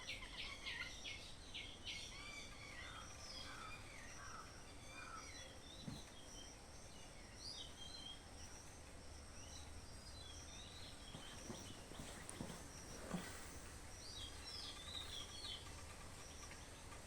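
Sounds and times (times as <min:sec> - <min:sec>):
low background noise: 0:00.0 - 0:17.0
small birds chirping: 0:00.0 - 0:17.0.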